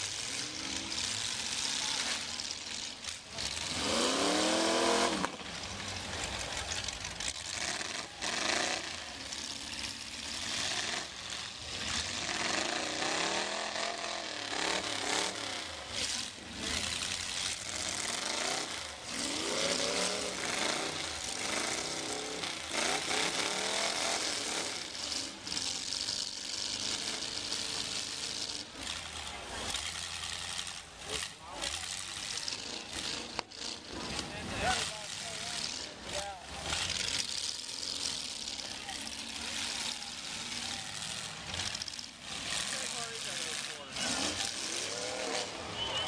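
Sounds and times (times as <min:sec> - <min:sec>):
rough car engines revving: 0:00.0 - 0:46.0.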